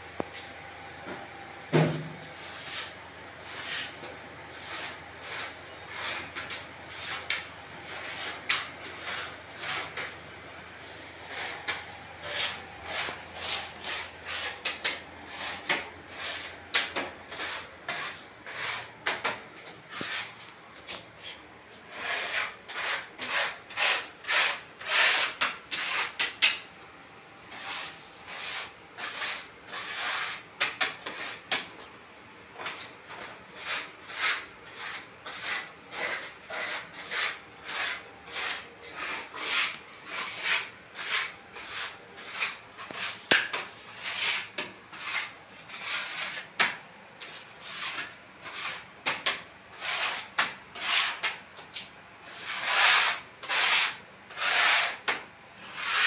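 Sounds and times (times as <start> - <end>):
trowel scraping wet cement: 4.6 - 10.1, 11.2 - 26.3, 27.5 - 31.7, 32.6 - 46.5, 47.3 - 56.0.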